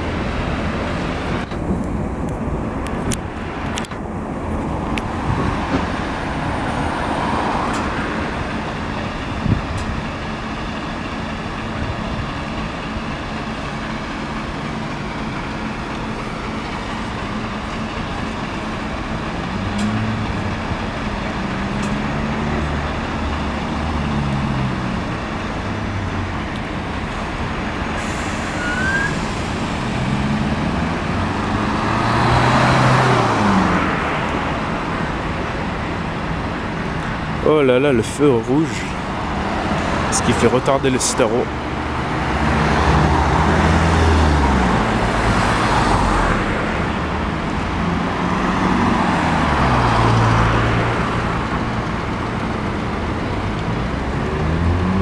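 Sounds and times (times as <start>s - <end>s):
engines revving: 0.0s - 55.0s
road traffic: 0.0s - 55.0s.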